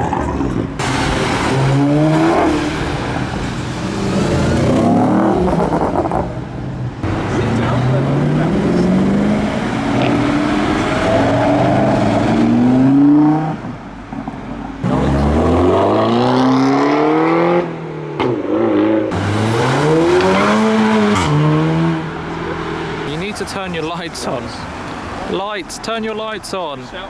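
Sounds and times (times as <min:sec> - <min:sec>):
car engines revving hard: 0:00.0 - 0:27.0.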